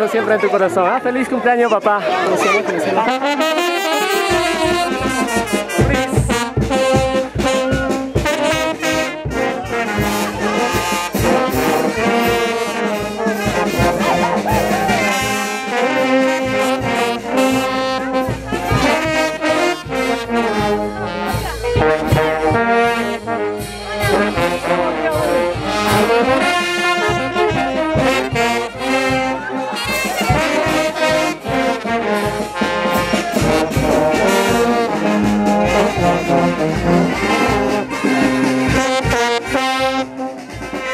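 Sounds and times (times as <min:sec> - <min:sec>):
brass band playing: 0:01.3 - 0:40.9.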